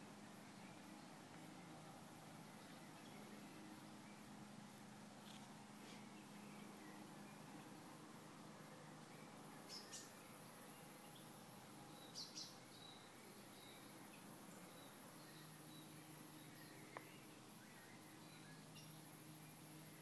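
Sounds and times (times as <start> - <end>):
high insect hum: 0.0 - 20.0
faint bird chirps: 2.5 - 4.4, 5.2 - 8.0, 8.6 - 20.0.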